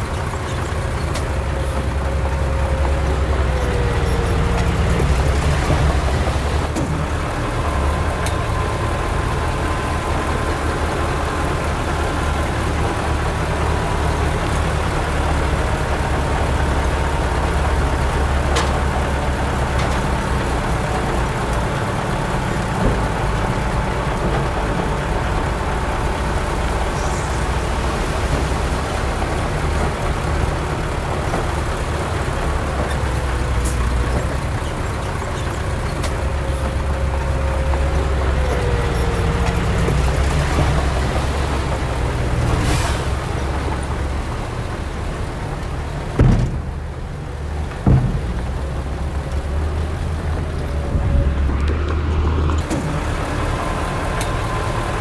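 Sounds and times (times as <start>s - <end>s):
diesel engine rumble: 0.0s - 55.0s.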